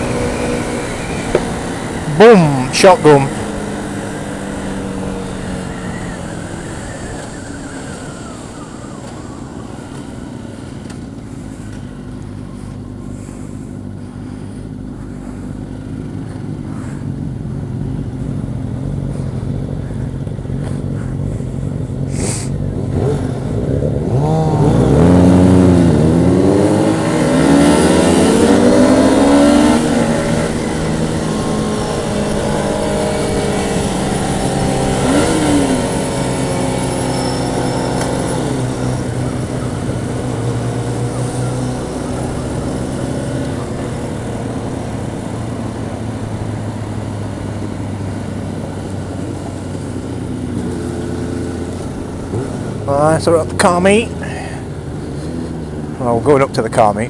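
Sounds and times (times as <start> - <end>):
motorcycle engine drone: 0.0 - 57.0
motorcycle engines revving: 0.0 - 57.0.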